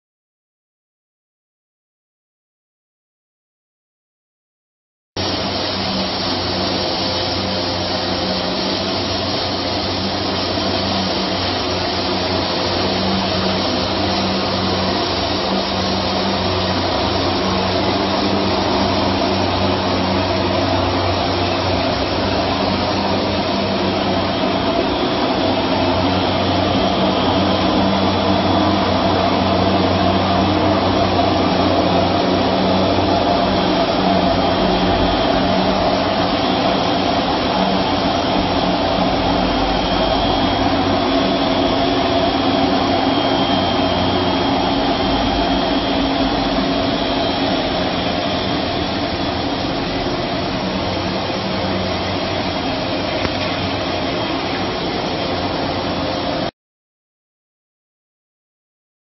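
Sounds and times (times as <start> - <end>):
machine humming with hiss: 5.2 - 56.5.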